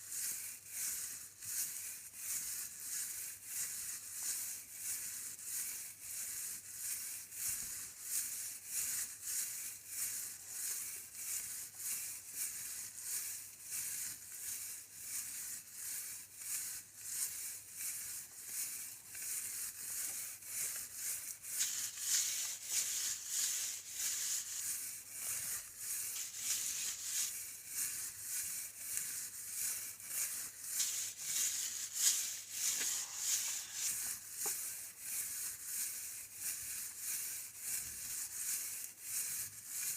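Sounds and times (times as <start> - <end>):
rhythmic dry rattling: 0.0 - 39.9.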